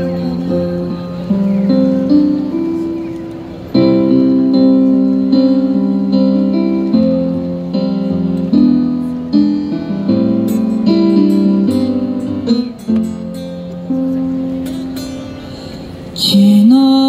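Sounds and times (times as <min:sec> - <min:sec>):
electronic keyboard chords: 0:00.0 - 0:16.1
acoustic guitar strumming: 0:00.0 - 0:17.0.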